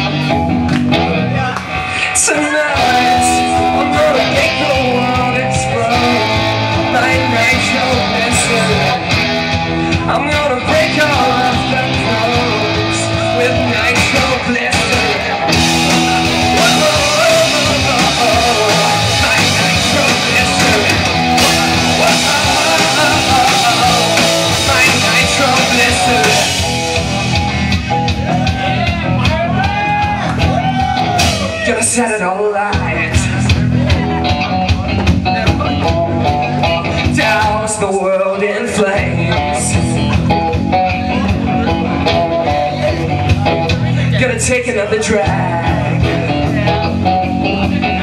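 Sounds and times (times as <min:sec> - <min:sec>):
electric guitar: 0:00.0 - 0:48.0
rock band playing live: 0:00.0 - 0:48.0.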